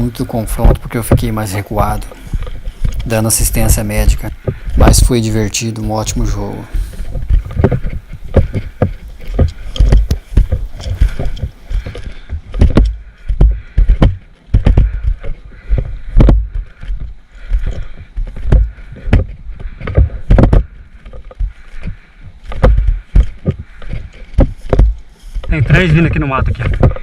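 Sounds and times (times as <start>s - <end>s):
footsteps through brush: 0.0s - 27.0s
rustling: 0.0s - 27.0s.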